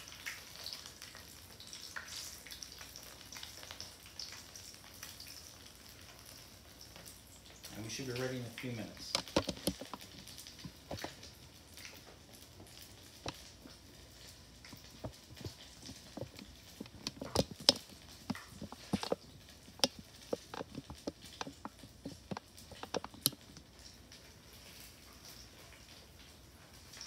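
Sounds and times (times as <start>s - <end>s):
frying in hot oil: 0.0s - 27.0s
oil popping and crackling: 0.0s - 27.0s.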